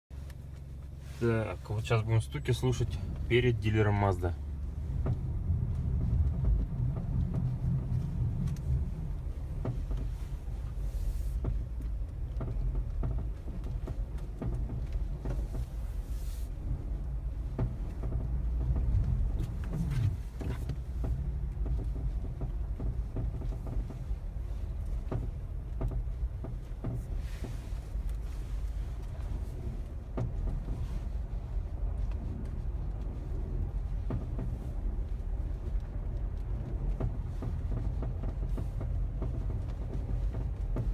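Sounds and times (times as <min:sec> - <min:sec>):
road and engine rumble: 0:00.0 - 0:40.9
knocks from underneath car: 0:04.5 - 0:31.1, 0:31.8 - 0:40.9.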